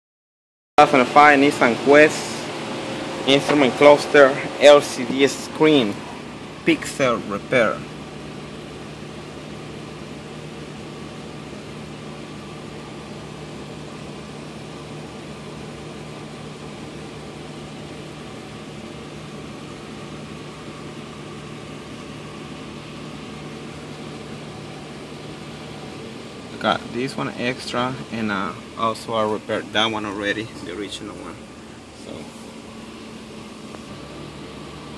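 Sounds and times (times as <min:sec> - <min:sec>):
steady machine hum with hiss: 0:00.8 - 0:34.9.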